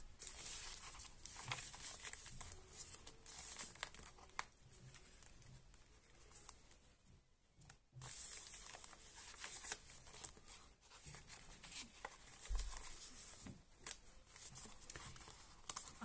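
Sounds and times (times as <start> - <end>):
paper pages rustling: 0.0 - 6.9, 7.7 - 16.0.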